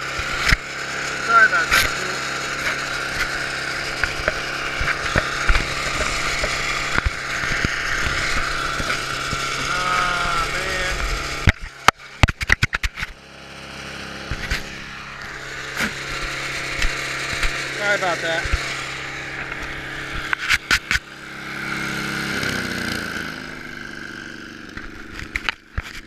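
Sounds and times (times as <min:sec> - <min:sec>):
snow blower engine running: 0:00.0 - 0:26.0.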